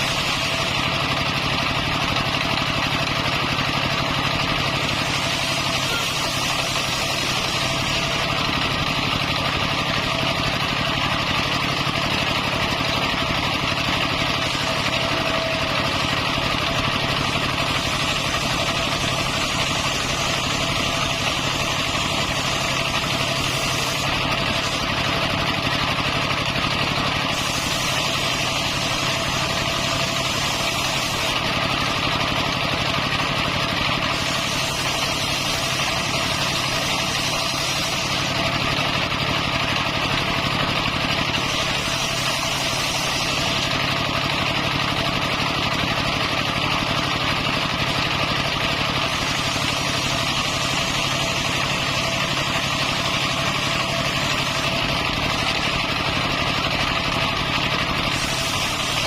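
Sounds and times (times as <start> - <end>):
engine-driven circular saw running: 0.0 - 59.0.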